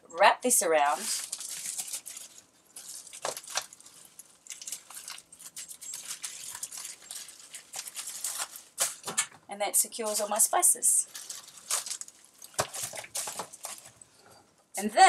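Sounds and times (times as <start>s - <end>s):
bubble wrap crinkling: 0.6s - 9.3s, 9.9s - 14.2s.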